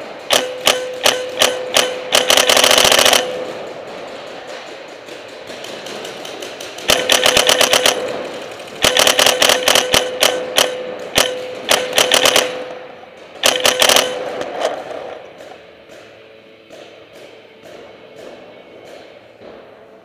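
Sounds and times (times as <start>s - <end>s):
paintball marker rapid firing: 0.0s - 19.7s.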